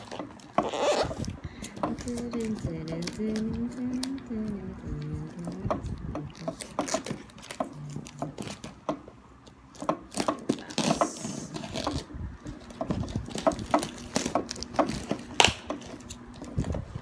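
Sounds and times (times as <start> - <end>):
packaging rustling and clicking: 0.0 - 17.0.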